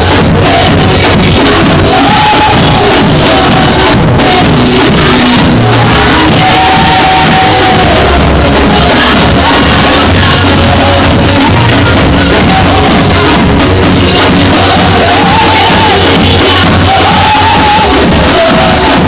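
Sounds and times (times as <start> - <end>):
choir singing: 0.0 - 19.0
heavy bass line: 0.0 - 19.0.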